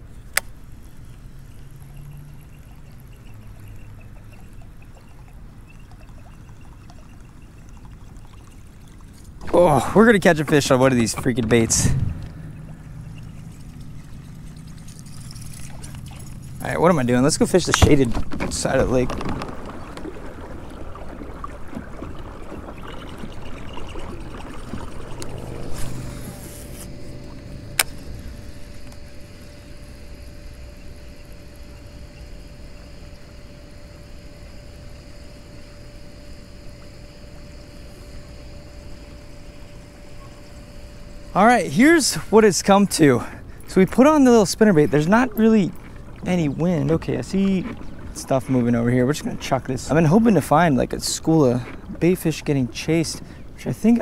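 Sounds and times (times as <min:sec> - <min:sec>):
water trickling and lapping: 0:00.0 - 0:54.0.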